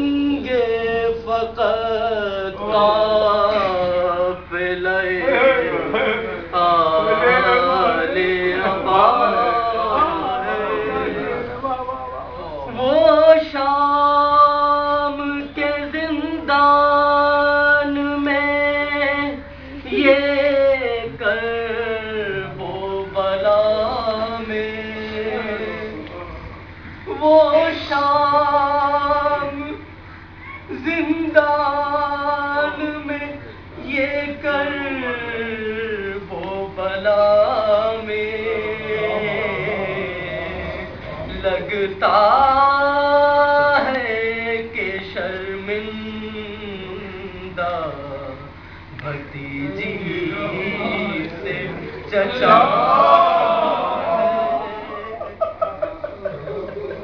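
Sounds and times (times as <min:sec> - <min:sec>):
man singing unaccompanied: 0:00.0 - 0:30.0, 0:30.6 - 0:55.2.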